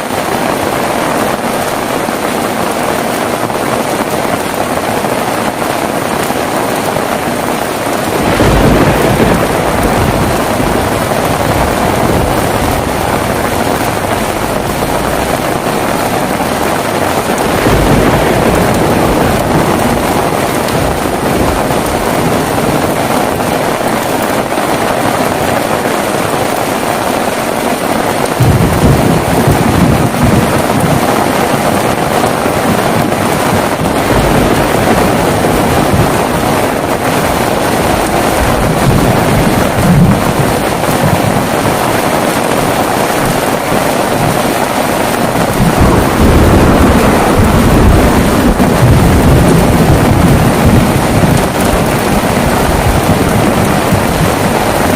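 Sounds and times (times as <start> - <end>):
heavy rain falling: 0.0 - 54.9
thunder rumbling: 0.0 - 54.9.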